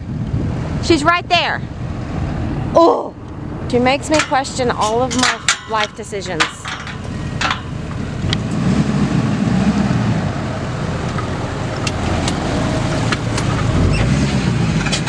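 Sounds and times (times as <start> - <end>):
farm vehicle engine rumbling: 0.0 - 15.0.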